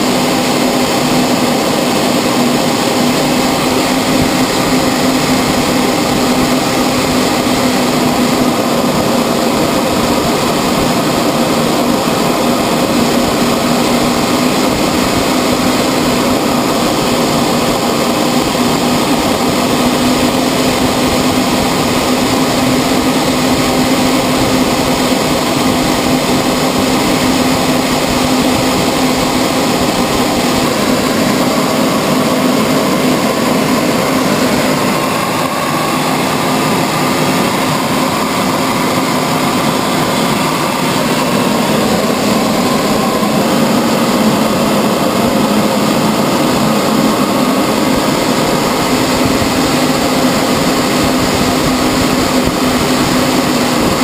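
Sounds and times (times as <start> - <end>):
faint high whine: 0.0 - 54.0
jet engine drone: 0.0 - 54.0
low hum: 0.0 - 54.0
rushing air: 0.0 - 54.0.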